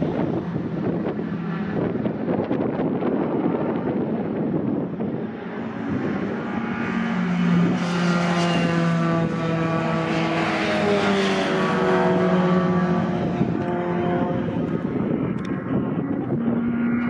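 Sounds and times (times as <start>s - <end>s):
truck engine passing at speed: 0.0s - 17.0s
wind noise: 0.0s - 17.0s.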